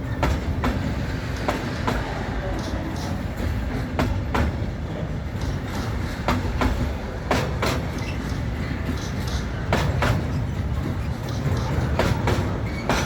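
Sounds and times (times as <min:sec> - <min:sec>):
train low rumble: 0:00.0 - 0:13.0
train wheels clacking over rail joints: 0:00.0 - 0:13.0.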